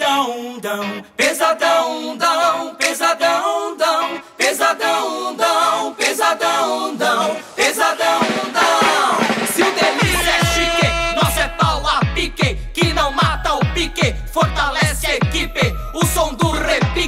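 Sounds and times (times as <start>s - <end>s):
male a cappella group singing: 0.0s - 17.0s.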